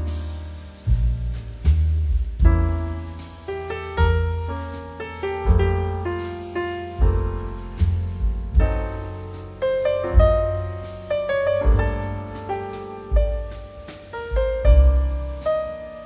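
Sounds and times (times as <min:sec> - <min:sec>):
gentle piano melody: 0:00.0 - 0:01.7, 0:02.4 - 0:16.0
deep piano bass notes: 0:00.0 - 0:16.0.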